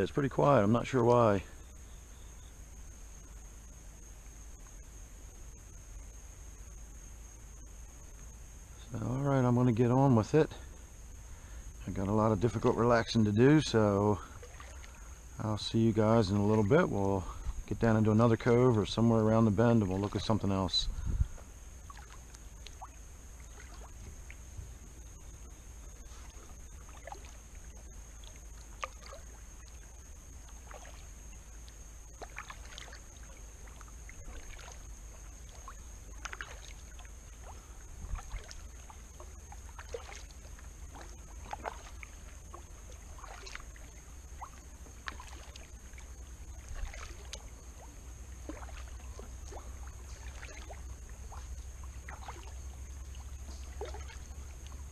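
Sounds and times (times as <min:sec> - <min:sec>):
low steady rumble: 0:00.0 - 0:54.9
kayak paddle splashes: 0:07.6 - 0:54.9.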